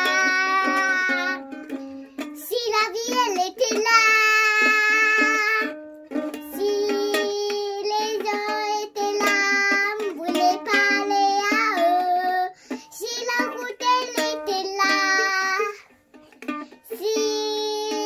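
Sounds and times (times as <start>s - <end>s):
girl singing long notes: 0.0s - 5.8s, 6.4s - 15.9s, 16.8s - 18.0s
ukulele strumming: 0.0s - 18.0s.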